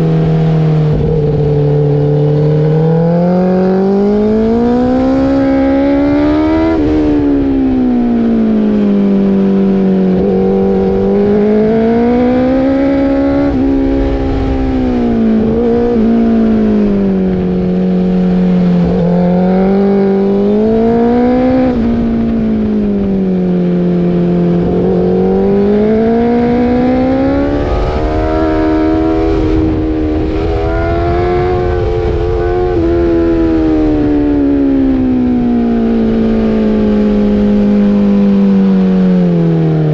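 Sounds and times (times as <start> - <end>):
motorcycle engine revving: 0.0 - 39.9
wind rumble: 0.0 - 39.9.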